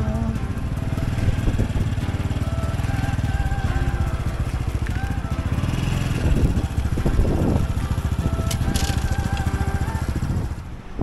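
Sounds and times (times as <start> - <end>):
motorcycle engine running slowly: 0.0 - 11.0.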